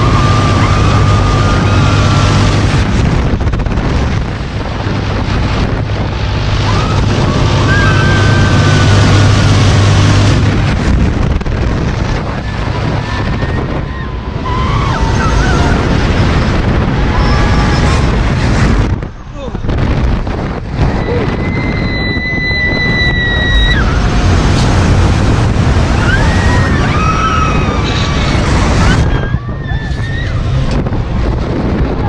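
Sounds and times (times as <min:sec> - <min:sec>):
ride machinery humming: 0:00.0 - 0:32.0
wind buffeting microphone: 0:00.0 - 0:32.0.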